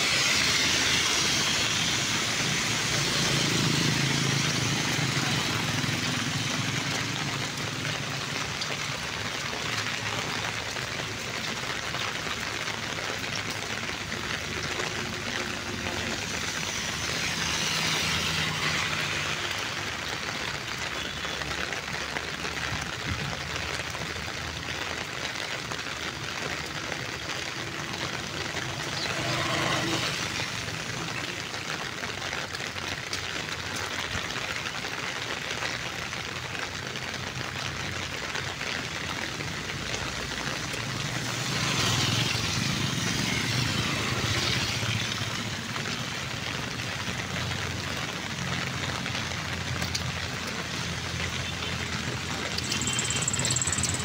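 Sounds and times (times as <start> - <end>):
vehicle engines passing: 0.0 - 20.9, 22.2 - 35.3, 36.0 - 54.0
rain hiss on wet road: 0.0 - 54.0.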